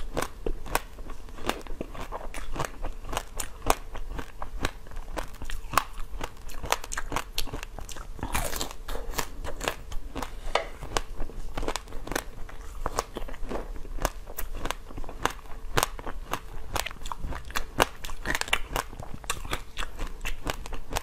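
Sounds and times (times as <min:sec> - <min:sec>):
crunchy biting and chewing: 0:00.0 - 0:21.0.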